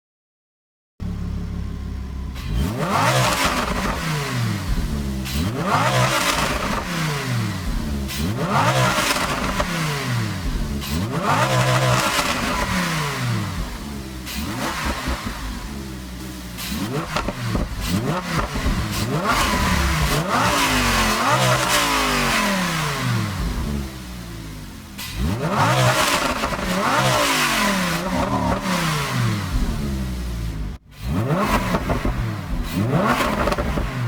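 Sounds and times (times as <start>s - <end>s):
car engine revving: 1.0s - 34.0s.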